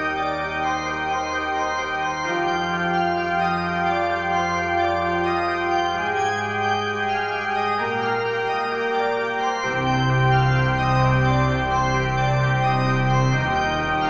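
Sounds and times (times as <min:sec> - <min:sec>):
organ playing sustained chords: 0:00.0 - 0:14.0.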